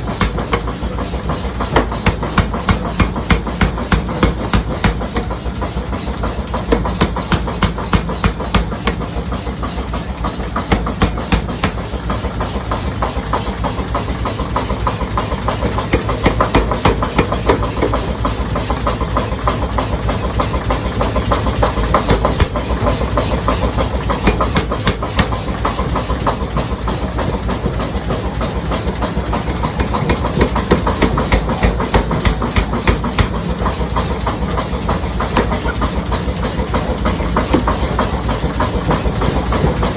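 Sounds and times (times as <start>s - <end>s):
metalworking machinery clattering: 0.0s - 39.9s.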